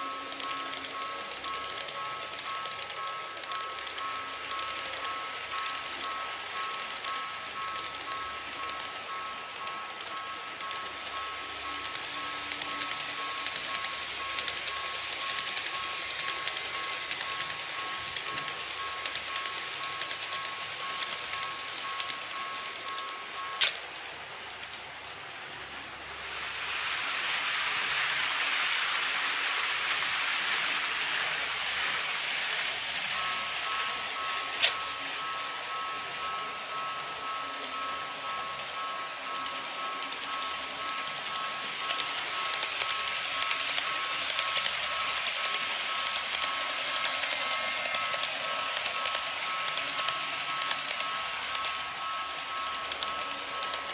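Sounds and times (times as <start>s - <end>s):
sharp clicks: 0.0s - 24.8s, 33.0s - 53.9s
model train running on track: 0.0s - 53.9s.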